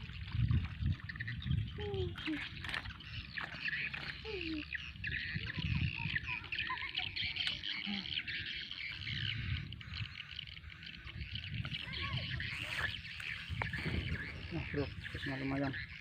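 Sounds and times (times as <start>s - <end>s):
high chirps: 2.6s - 15.9s.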